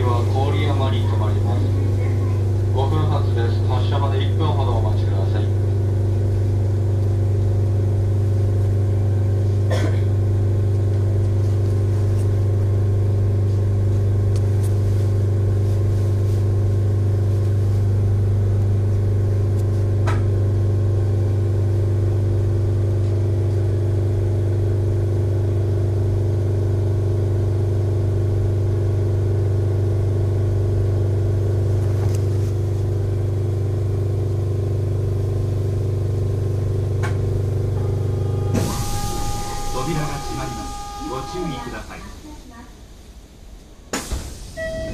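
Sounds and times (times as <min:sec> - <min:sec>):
train equipment humming: 0:00.0 - 0:44.9.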